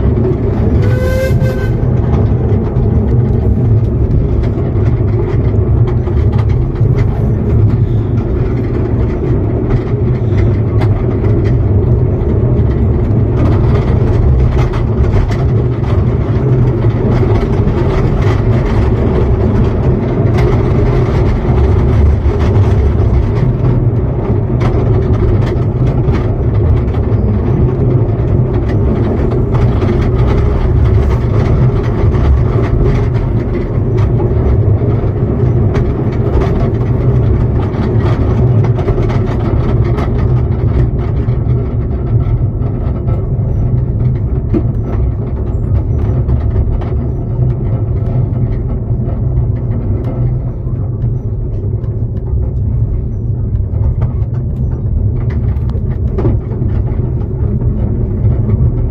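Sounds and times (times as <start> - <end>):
miniature train rumbling on track: 0.0 - 58.9.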